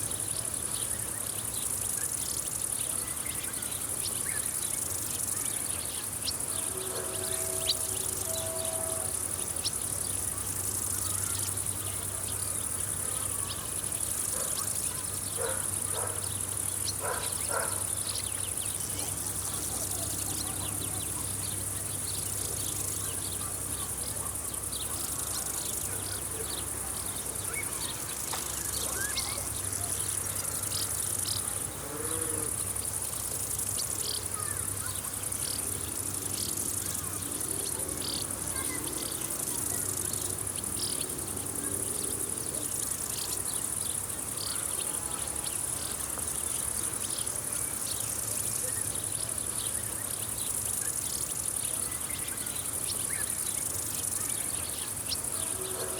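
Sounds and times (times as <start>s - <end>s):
insect chirps: 0.0s - 55.9s
insects buzzing: 0.0s - 55.9s.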